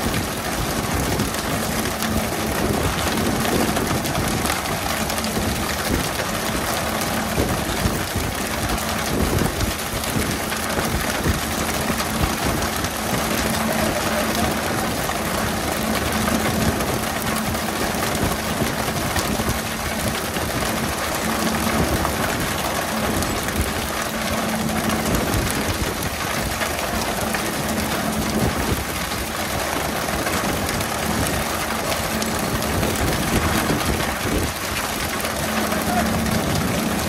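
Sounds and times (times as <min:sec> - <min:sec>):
boat engine running: 0:00.0 - 0:37.0
water spray splashing: 0:00.0 - 0:37.0.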